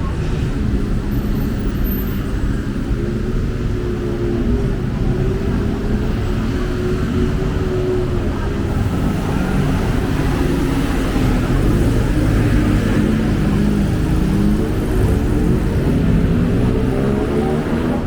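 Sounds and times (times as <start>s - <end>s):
traffic engines rumbling past: 0.0s - 18.0s.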